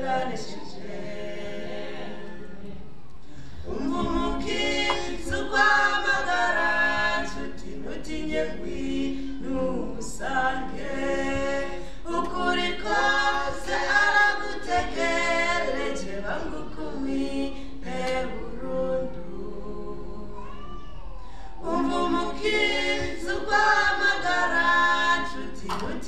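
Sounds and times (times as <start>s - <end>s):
people singing into microphones: 0.0s - 26.0s.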